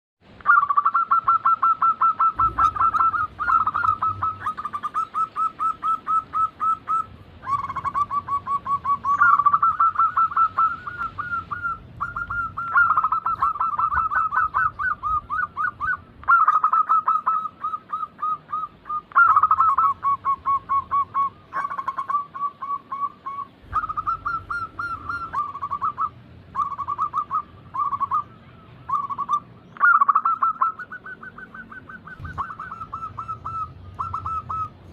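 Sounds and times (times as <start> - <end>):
doves cooing: 0.4 - 34.9.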